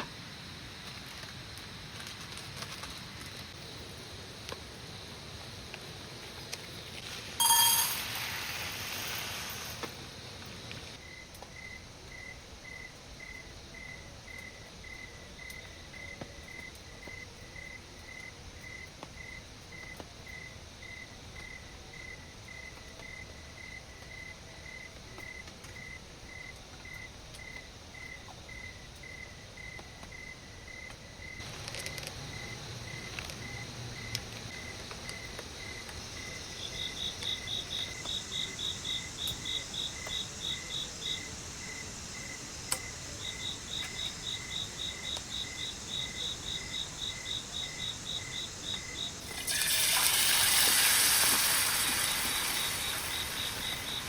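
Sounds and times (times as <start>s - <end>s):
insect chirping: 0.0s - 16.1s, 25.8s - 54.0s
outdoor background hiss: 0.0s - 54.0s.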